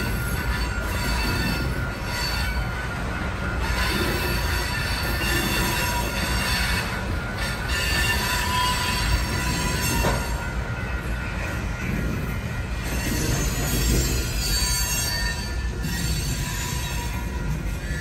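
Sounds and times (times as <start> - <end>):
train rumbling: 0.0 - 18.0
wheels squealing on rails: 0.0 - 18.0.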